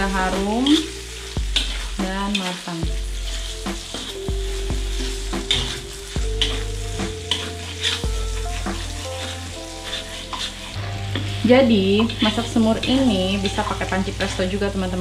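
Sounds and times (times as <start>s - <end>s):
spice paste sizzling in a wok: 0.0s - 15.0s
metal spoon scraping a pan: 0.2s - 14.4s.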